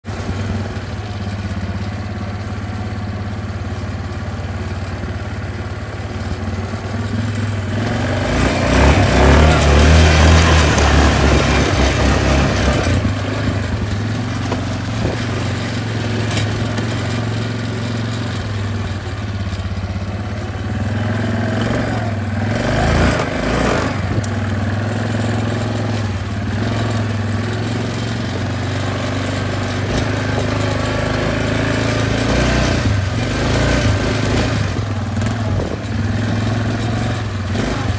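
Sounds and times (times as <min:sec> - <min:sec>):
quad bike engine: 0:00.0 - 0:37.9
tyres through mud: 0:00.0 - 0:37.9.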